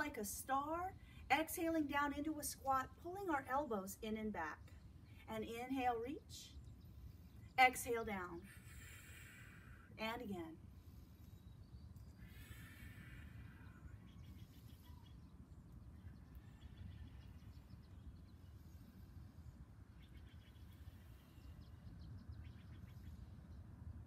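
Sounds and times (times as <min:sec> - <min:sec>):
distant birds chirping: 0:00.0 - 0:24.0
steady low rumble: 0:00.0 - 0:24.0.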